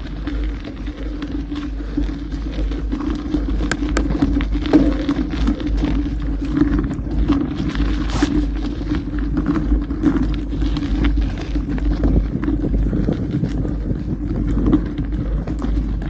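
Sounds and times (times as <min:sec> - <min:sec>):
bike rattling: 0:00.0 - 0:16.0
bike tyres crunching on gravel: 0:00.0 - 0:16.0
wind buffeting microphone: 0:00.0 - 0:16.0.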